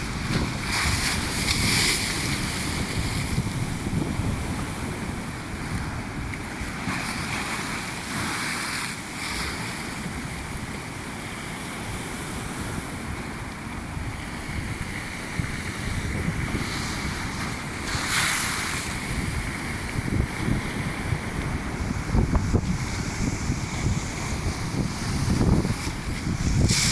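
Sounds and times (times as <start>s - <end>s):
wind buffeting microphone: 0.0s - 7.8s, 11.9s - 26.9s
waves breaking on shore: 0.0s - 26.9s.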